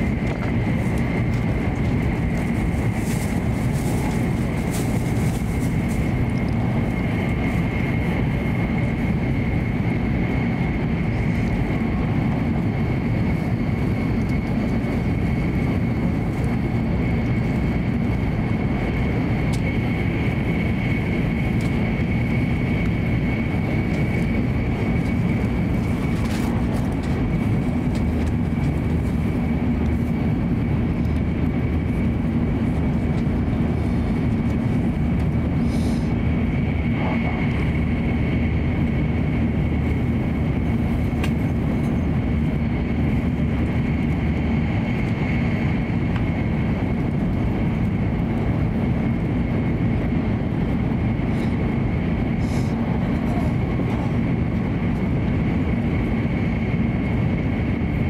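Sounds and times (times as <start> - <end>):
high-pitched whine: 0.0 - 58.0
train interior rumble: 0.0 - 58.0.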